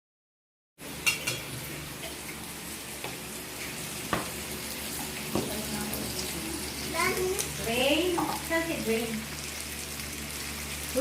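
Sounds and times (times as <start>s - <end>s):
meat sizzling on a grill: 0.8s - 11.0s.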